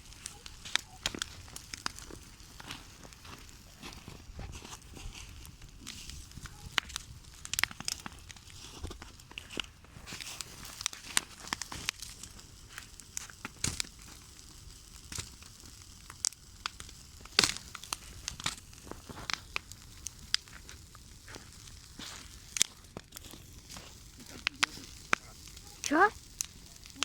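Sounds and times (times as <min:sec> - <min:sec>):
bonfire crackling and popping: 0:00.0 - 0:27.0.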